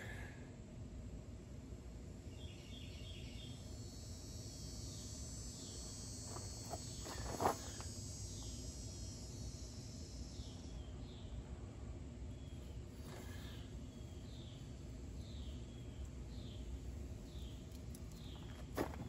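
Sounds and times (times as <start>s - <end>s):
insects chirring: 2.0s - 19.0s.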